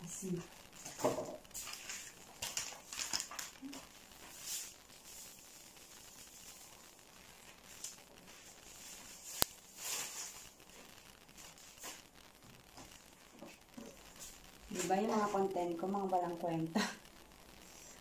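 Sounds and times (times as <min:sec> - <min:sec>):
rustling and handling noises: 0:00.3 - 0:15.7.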